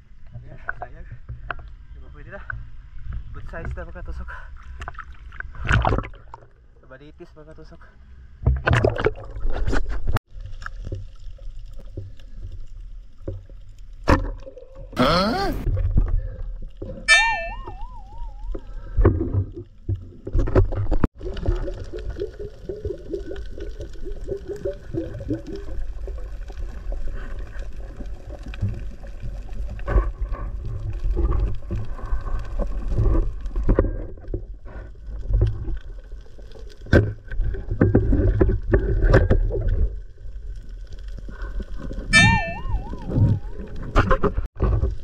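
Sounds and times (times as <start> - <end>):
underwater rumble: 8.1 - 45.0
water gurgling: 8.6 - 45.0.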